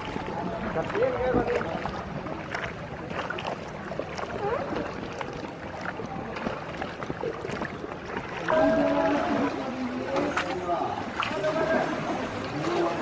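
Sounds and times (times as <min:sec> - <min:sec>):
faint voices: 0:00.0 - 0:13.0
water splashing from paddling: 0:00.0 - 0:13.0.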